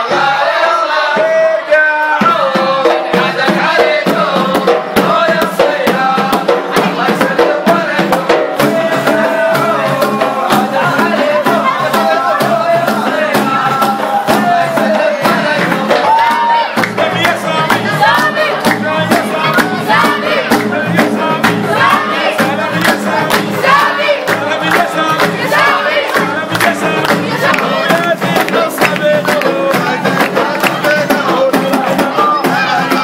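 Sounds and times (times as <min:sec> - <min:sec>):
men singing in a group: 0:00.0 - 0:33.0
hand-struck frame drums: 0:02.1 - 0:33.0.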